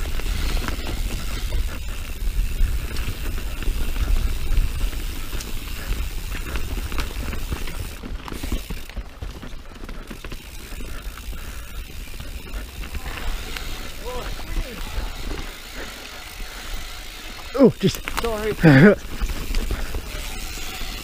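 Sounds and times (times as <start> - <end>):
bike freewheel ratcheting: 0.0 - 21.0
tyres rumbling on dirt: 0.0 - 21.0
wind: 0.0 - 21.0.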